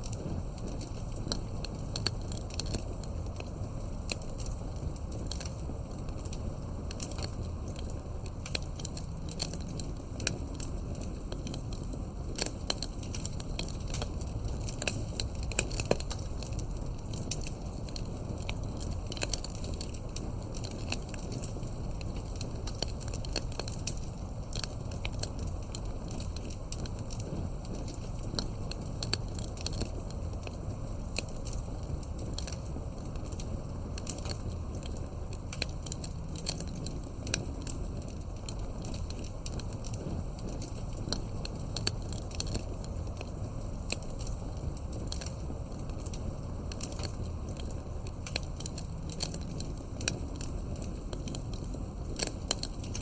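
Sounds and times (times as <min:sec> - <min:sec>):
campfire crackling and popping: 0:00.0 - 0:53.0
low rumble of flames: 0:00.0 - 0:53.0.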